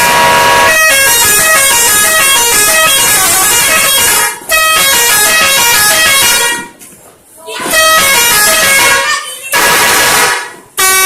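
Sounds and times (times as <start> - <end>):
car horn playing a tune: 0.0 - 6.7, 7.7 - 11.0.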